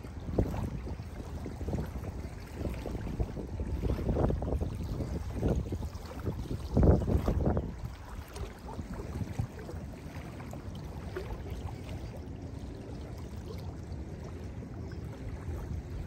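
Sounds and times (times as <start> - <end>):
small waves lapping on shore: 0.0 - 16.0.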